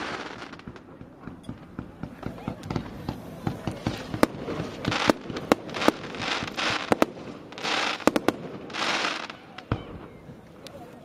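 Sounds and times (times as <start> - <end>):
fireworks bangs: 0.0 - 10.6
fireworks hissing crackle: 0.0 - 10.7.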